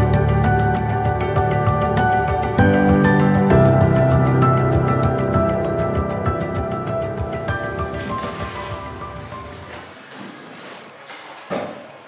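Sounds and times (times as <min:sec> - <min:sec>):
background music: 0:00.0 - 0:10.8.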